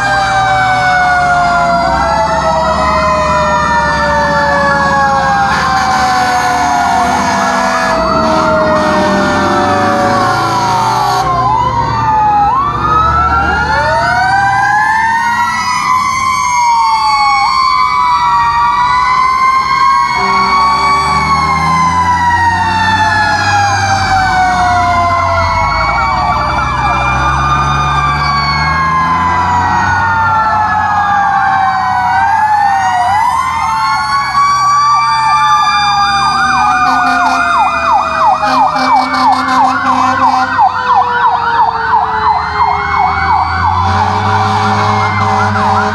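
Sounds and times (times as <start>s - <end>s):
fire truck sirens wailing: 0.0s - 45.9s.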